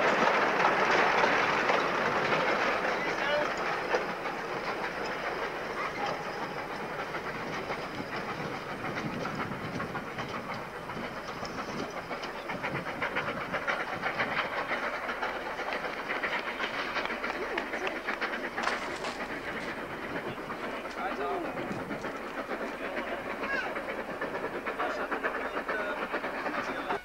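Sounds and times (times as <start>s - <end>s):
wagon wheels clattering on rails: 0.0s - 27.0s
rapid clicks: 0.1s - 26.7s.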